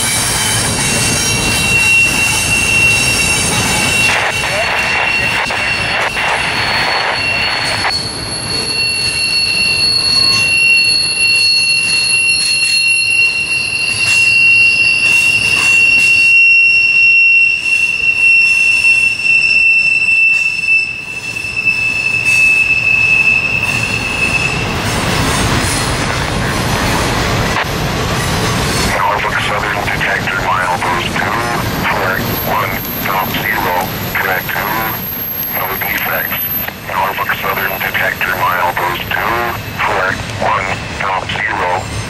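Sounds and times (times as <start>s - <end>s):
rumble and clatter of train cars: 0.0s - 42.0s
train wheels squealing on rails: 0.0s - 42.0s.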